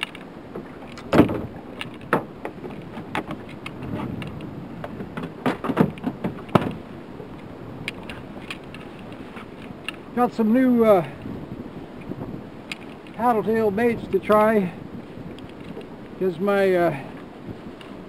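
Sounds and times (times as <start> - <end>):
gear knocking and clicking in boat: 0.0 - 18.0
water noise: 0.0 - 18.0
wind: 0.0 - 18.0.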